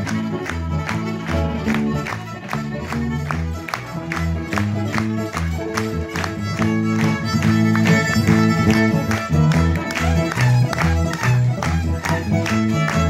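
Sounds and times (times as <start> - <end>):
electric guitars: 0.0 - 13.0
fiddle bowing sustained notes: 0.0 - 13.0.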